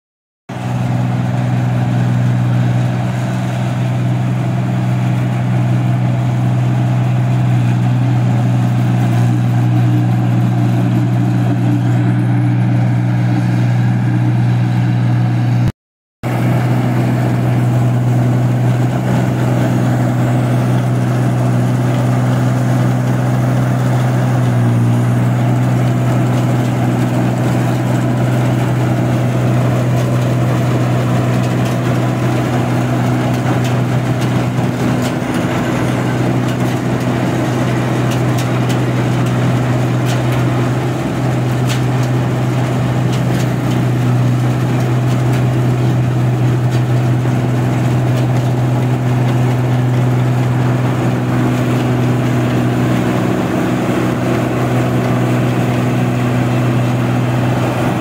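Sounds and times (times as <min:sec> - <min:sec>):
combine harvester engine drone: 0:00.5 - 0:58.0.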